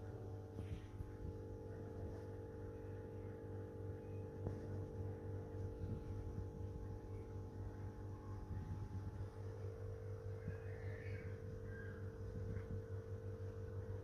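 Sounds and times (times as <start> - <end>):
equipment hum: 0.0 - 14.0.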